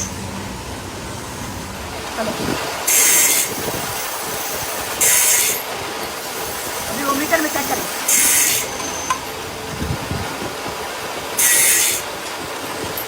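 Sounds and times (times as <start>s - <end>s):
workshop machine noise: 0.0s - 13.0s.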